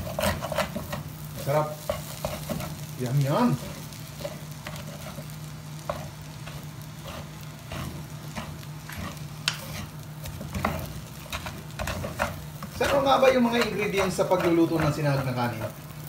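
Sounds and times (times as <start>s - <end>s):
spatula scraping rice in pot: 0.0s - 2.8s, 3.6s - 15.9s
soft frying sizzle: 0.0s - 16.0s.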